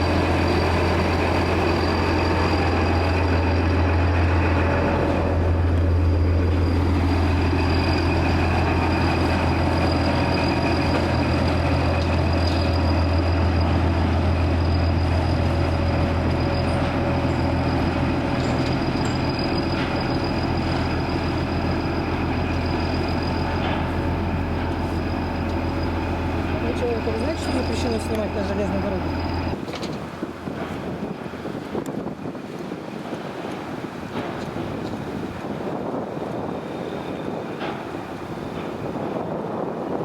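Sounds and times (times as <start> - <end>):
locomotive engine drone: 0.0 - 40.0.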